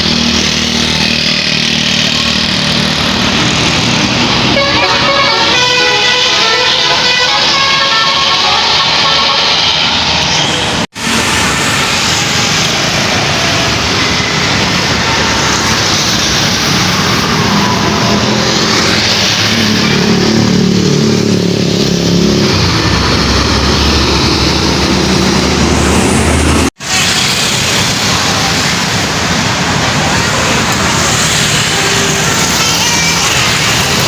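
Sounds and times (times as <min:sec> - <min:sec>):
bus engine driving past: 0:00.0 - 0:34.0
road and traffic noise: 0:00.0 - 0:34.0.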